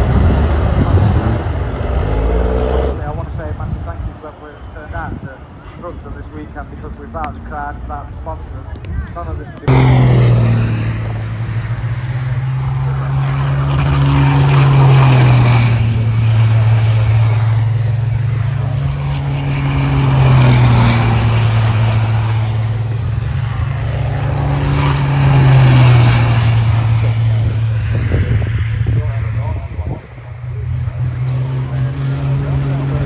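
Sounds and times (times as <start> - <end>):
diesel trucks passing at speed: 0.0 - 33.0.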